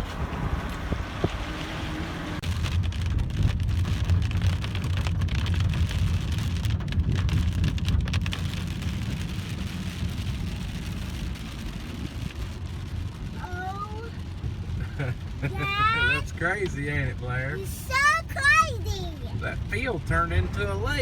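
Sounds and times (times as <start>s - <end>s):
low rumble: 0.0s - 17.9s
heavy rain pouring: 0.0s - 21.0s.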